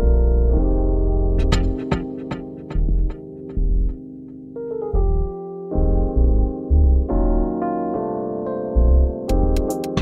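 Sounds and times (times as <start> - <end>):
keyboard music with deep bass: 0.0 - 10.0.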